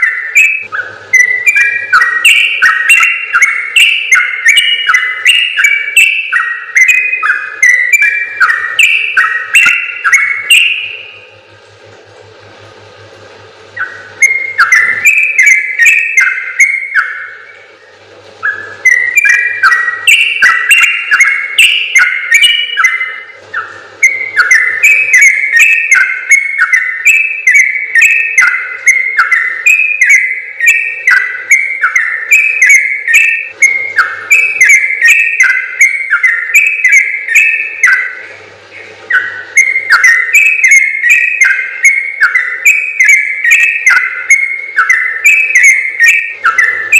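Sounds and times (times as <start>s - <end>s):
bird singing chattering notes: 0.0s - 11.2s, 13.7s - 17.8s, 18.4s - 46.9s.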